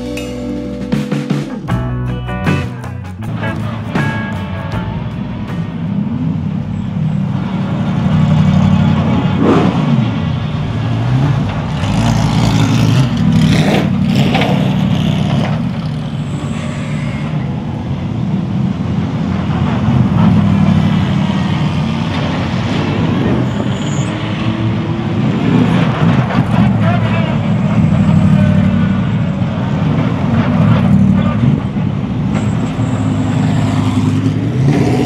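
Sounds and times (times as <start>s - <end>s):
race car engines rumbling: 0.0s - 35.0s.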